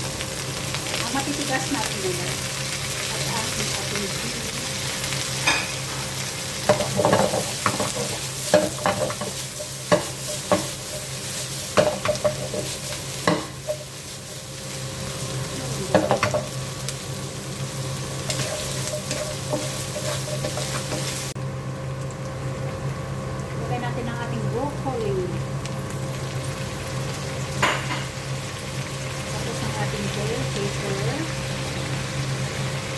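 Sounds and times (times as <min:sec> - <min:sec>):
vegetables sizzling in oil: 0:00.0 - 0:32.9.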